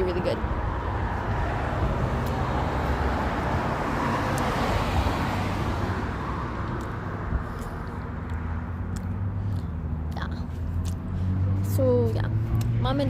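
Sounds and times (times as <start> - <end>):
low traffic hum: 0.0 - 13.0
vehicle passing by: 0.0 - 13.0.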